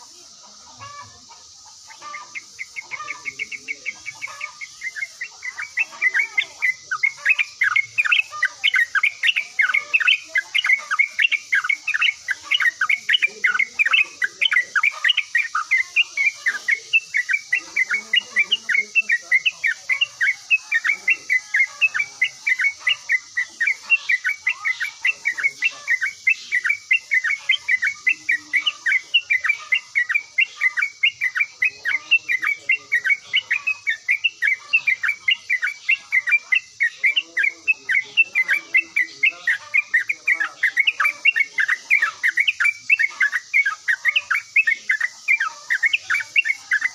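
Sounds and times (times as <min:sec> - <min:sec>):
bird chattering song: 0:00.0 - 0:46.9
steady high hiss: 0:00.0 - 0:46.9.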